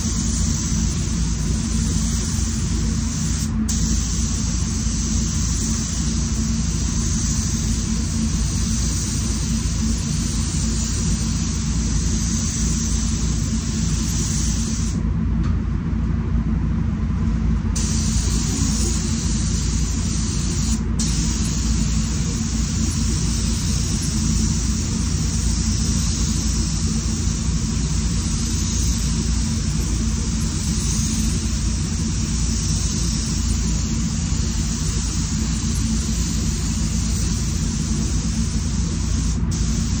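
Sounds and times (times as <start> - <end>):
spray gun hissing: 0.0 - 15.0, 17.8 - 40.0
air handling rumble: 0.0 - 40.0.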